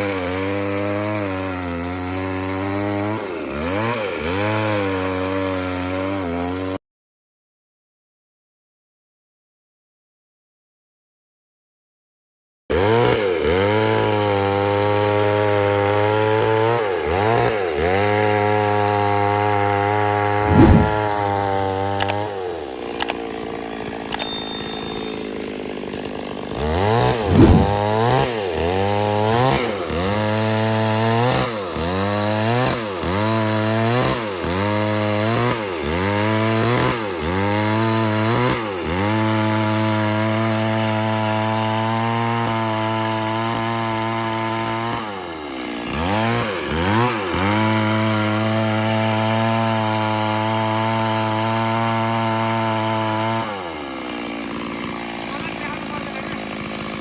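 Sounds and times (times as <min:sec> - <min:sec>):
chainsaw cutting wood: 0:00.0 - 0:06.8, 0:12.7 - 0:57.0.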